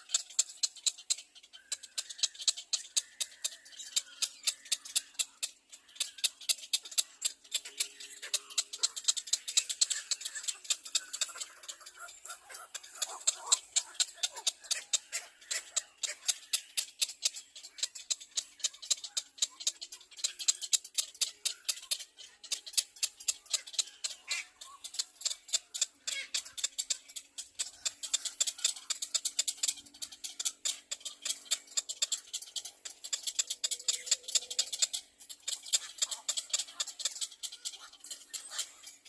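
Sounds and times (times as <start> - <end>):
baby birds chirping: 0.0 - 39.0.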